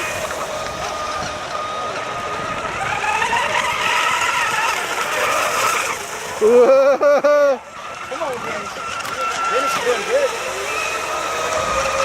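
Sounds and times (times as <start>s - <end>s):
rc boat motors whining: 0.0s - 12.0s.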